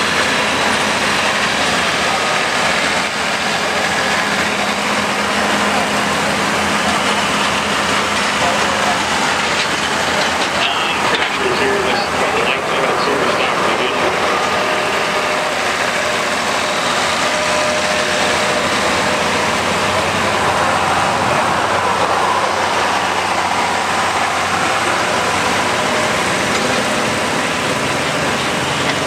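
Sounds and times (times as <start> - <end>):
tractor engines running hard: 0.0 - 29.0.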